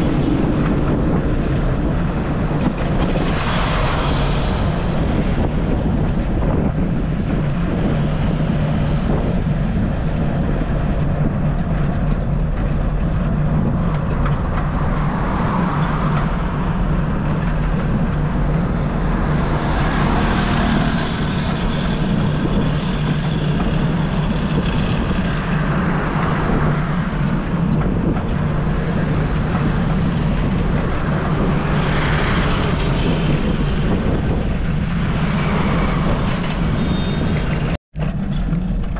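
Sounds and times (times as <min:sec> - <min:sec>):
vehicles passing: 0:00.0 - 0:38.9
wind rumble on microphone: 0:00.0 - 0:38.9.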